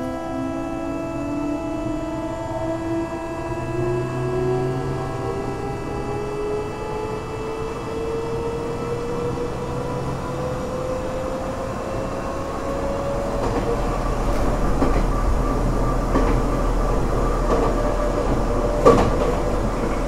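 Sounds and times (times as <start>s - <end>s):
thin rising whine: 0.0s - 18.8s
train running noise: 0.0s - 20.0s.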